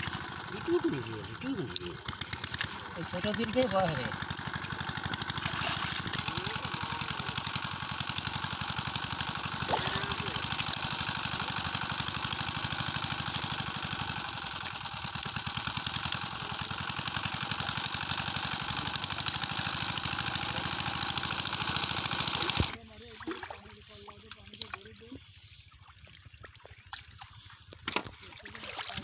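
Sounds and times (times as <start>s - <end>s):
small pump engine running: 0.0s - 29.0s.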